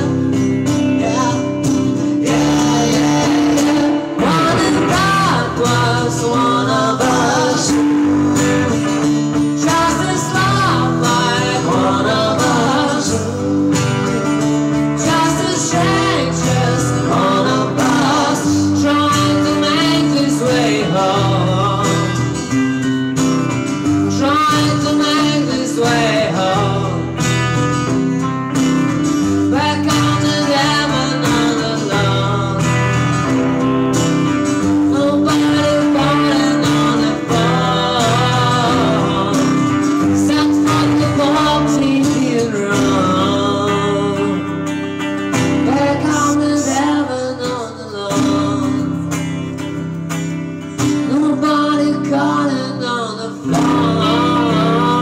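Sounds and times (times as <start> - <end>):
person singing: 0.0 - 22.6, 23.8 - 28.0, 29.2 - 33.4, 34.6 - 49.7, 50.8 - 55.0
acoustic and electric guitars: 0.0 - 55.0.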